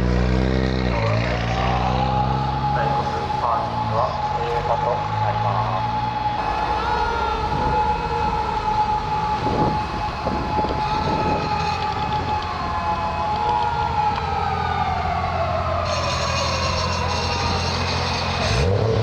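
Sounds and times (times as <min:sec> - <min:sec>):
vehicle engine whine: 0:00.0 - 0:19.0
low rumble: 0:01.5 - 0:17.6.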